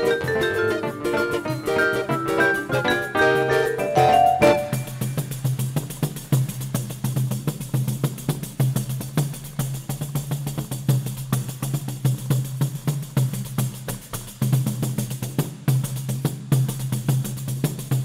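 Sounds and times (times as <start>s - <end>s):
fast tambourine strokes: 0.0s - 18.0s.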